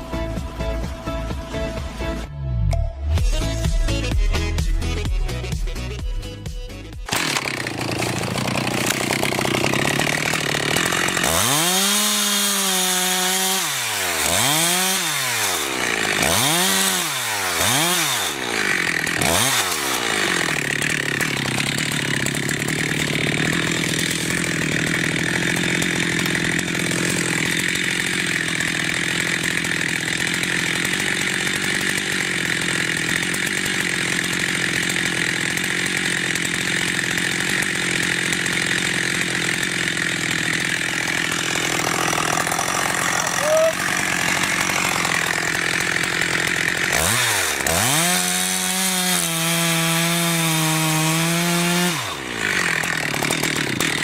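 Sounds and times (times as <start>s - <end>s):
chainsaw engine revving: 7.0s - 54.0s.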